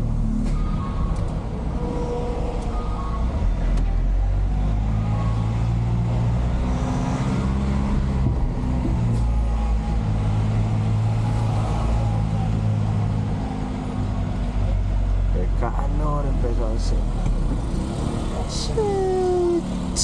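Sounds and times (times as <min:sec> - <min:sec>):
truck engine hum: 0:00.0 - 0:20.0.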